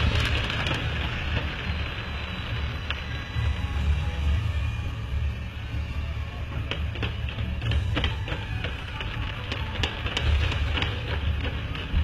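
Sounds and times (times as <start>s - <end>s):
fireworks sharp cracks: 0.0s - 4.8s, 6.5s - 12.0s
fireworks rumbling bursts: 0.0s - 12.0s.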